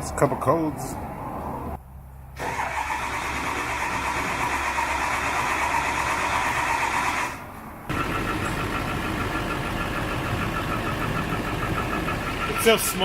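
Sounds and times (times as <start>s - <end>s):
diesel engine running: 2.4s - 13.0s.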